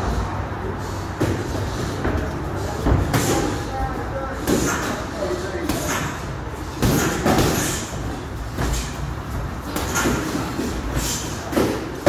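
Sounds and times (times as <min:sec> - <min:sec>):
movement in boxing ring: 0:00.0 - 0:12.0.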